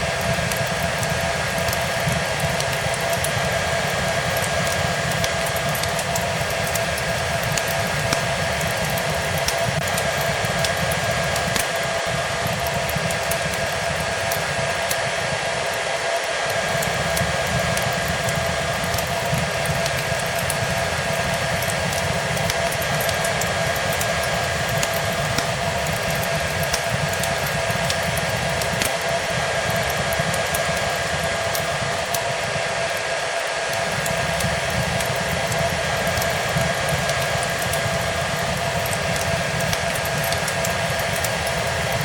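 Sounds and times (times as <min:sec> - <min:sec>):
hair dryer running: 0:00.0 - 0:42.0
wood fire popping and crackling: 0:00.0 - 0:42.0.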